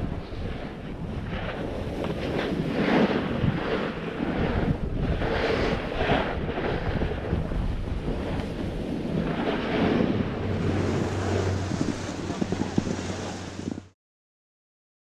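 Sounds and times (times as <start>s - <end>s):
snowboard scraping snow: 0.0s - 13.9s
wind buffeting microphone: 0.0s - 14.0s.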